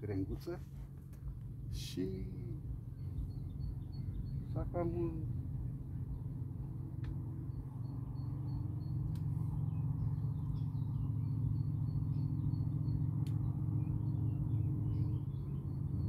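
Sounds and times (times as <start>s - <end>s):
boat engine droning: 0.0s - 16.0s
small bird chirping: 0.2s - 16.0s.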